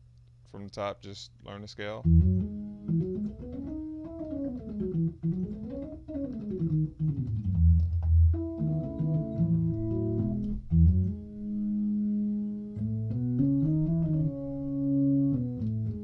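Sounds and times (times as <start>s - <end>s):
organ playing a scale: 2.0s - 16.0s.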